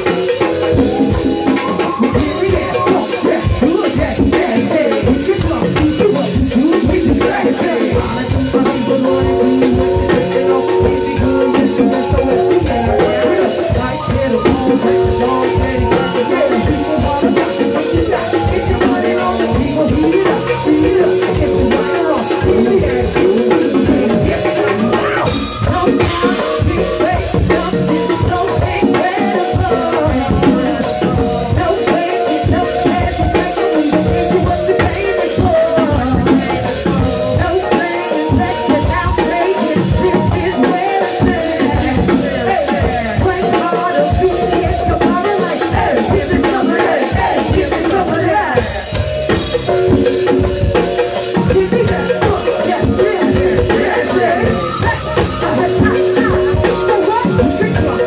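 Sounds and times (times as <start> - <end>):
congas and bongos: 0.0 - 58.0
drum kit: 0.0 - 58.0
keyboard chords: 0.0 - 58.0.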